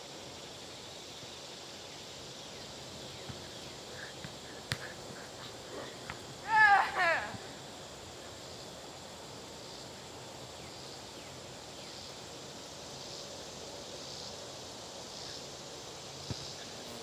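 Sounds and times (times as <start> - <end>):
faint high-pitched insect chirp: 0.0 - 17.0
steady low hum: 0.0 - 17.0.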